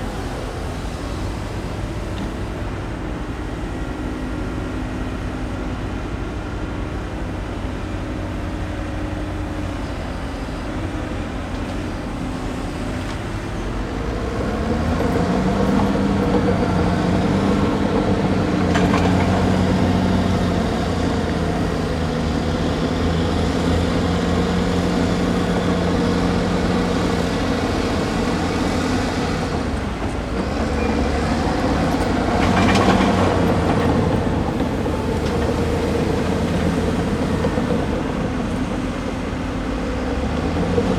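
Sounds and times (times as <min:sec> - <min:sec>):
excavator diesel engine: 0:00.0 - 0:40.9.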